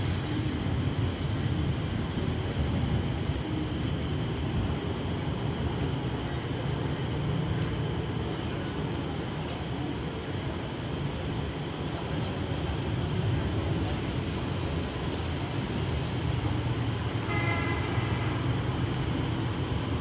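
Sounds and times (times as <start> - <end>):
rain hissing: 0.0 - 20.0
faint high whine: 2.2 - 20.0.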